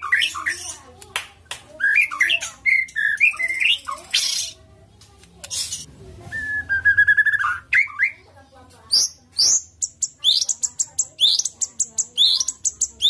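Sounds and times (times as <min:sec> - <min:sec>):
songbird singing: 0:00.0 - 0:01.0, 0:01.7 - 0:13.0.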